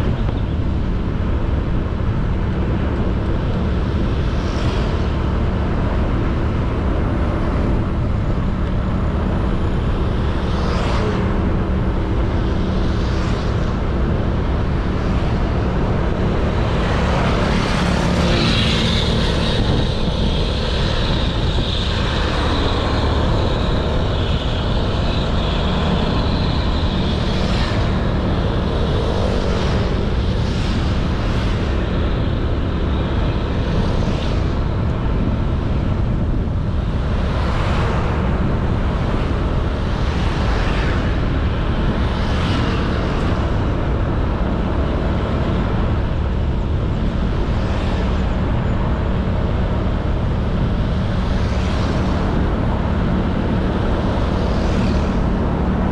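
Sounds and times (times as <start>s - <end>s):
road noise: 0.0s - 55.9s
wind rush: 0.0s - 55.9s.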